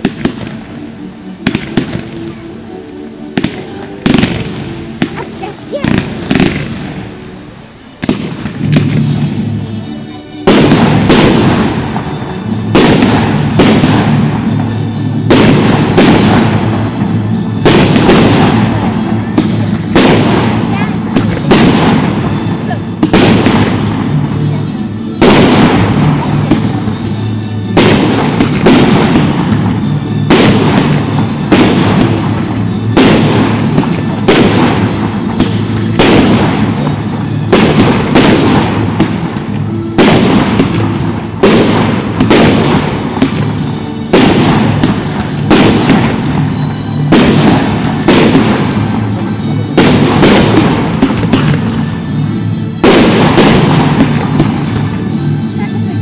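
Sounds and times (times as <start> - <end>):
fireworks banging: 0.0 - 56.0.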